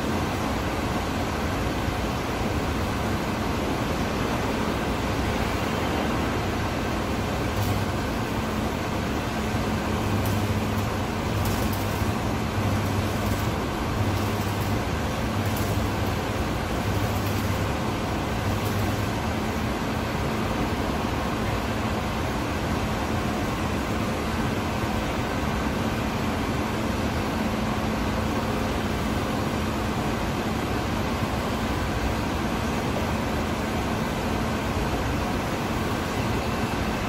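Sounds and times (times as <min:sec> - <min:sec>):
arc welding buzzing and crackling: 0:00.0 - 0:30.2
workshop background rush: 0:00.0 - 0:37.0.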